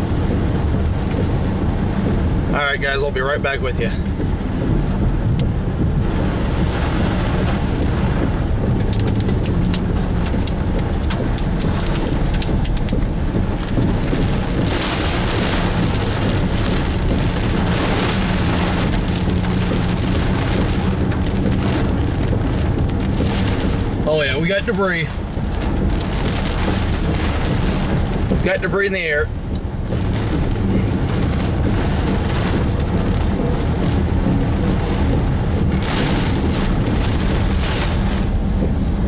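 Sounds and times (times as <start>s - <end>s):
car drone: 0.0s - 39.0s
heavy rain on car roof: 0.0s - 39.0s.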